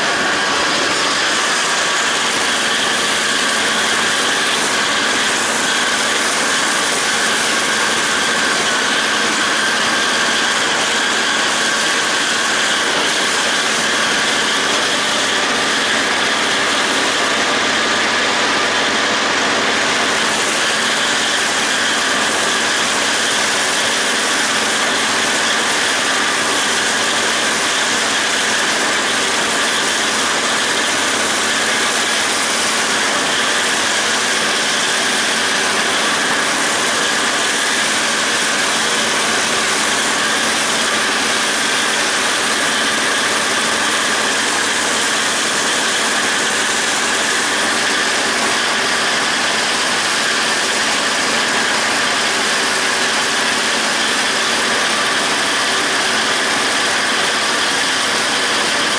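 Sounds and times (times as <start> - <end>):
tractor engine and mower drone: 0.0 - 58.9.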